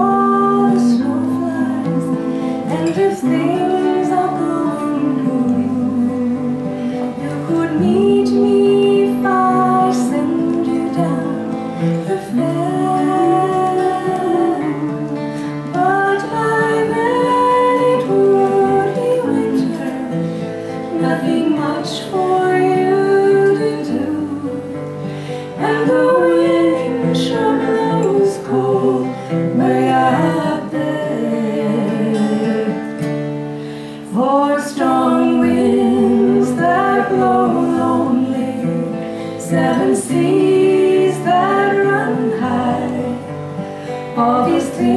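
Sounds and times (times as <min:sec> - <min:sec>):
acoustic guitars strumming: 0:00.0 - 0:44.9
women singing slow folk song: 0:00.0 - 0:44.9.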